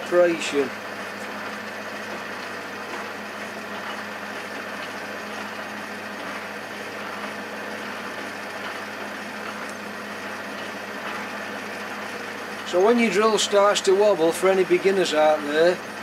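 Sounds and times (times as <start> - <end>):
drill boring into metal: 0.0 - 16.0
metal lathe motor hum: 0.0 - 16.0.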